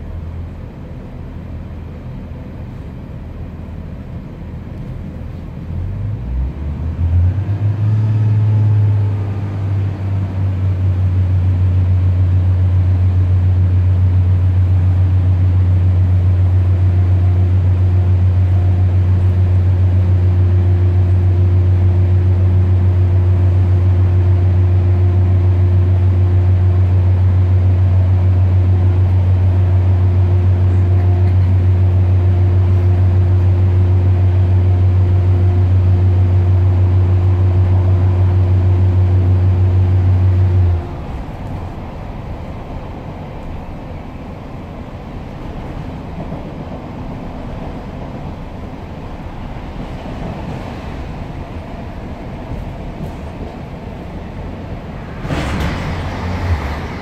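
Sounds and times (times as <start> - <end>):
diesel engine drone: 0.0 - 57.0
wheels rumbling on rails: 0.0 - 57.0.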